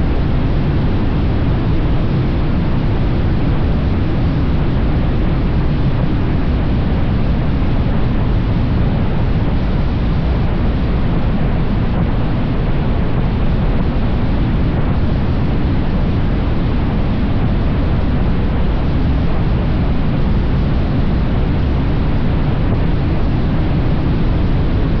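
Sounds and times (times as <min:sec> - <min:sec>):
wind rush on microphone: 0:00.0 - 0:25.0.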